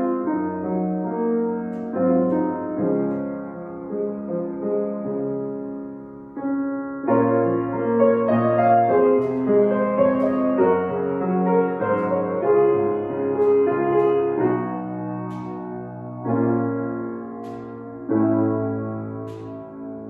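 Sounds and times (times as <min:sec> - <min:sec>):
solo piano playing chords: 0:00.0 - 0:20.0.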